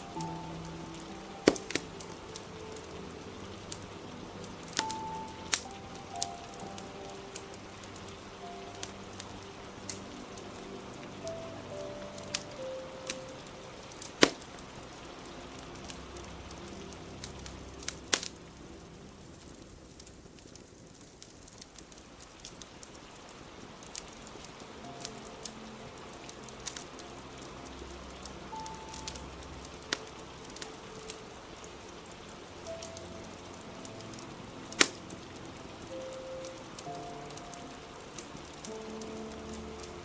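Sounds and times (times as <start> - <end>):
fire crackling: 0.0 - 40.0
steady rain hiss: 0.0 - 40.0.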